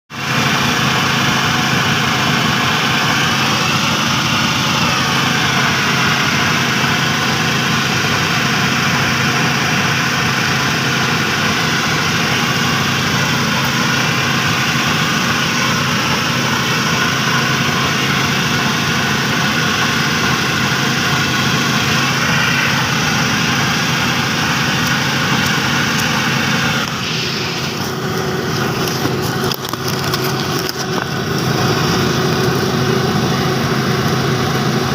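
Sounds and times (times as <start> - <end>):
threshing machine running: 0.1 - 34.9.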